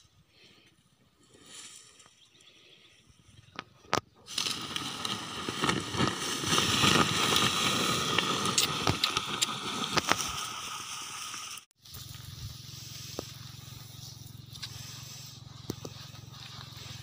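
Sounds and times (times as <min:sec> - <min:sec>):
dry stalks and soil scraping: 0:00.3 - 0:17.0.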